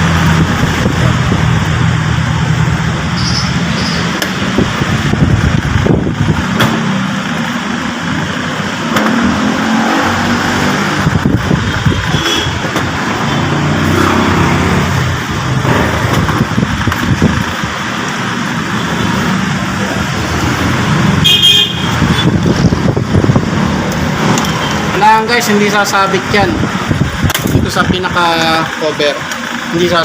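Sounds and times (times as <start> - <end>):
vehicle engines passing by: 0.0 - 30.0.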